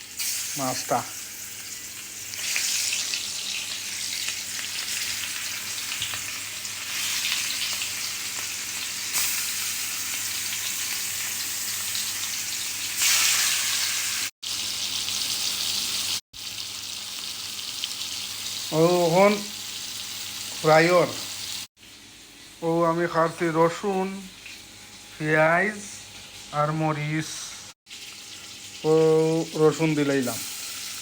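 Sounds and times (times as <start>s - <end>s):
fish frying in hot oil: 0.0s - 22.6s, 27.9s - 31.0s.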